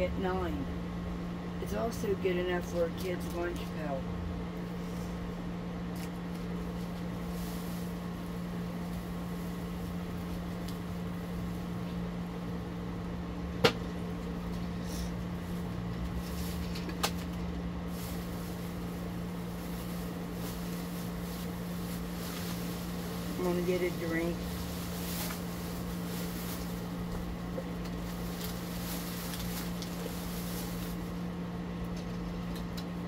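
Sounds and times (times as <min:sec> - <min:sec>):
appliance fan humming: 0:00.0 - 0:33.0.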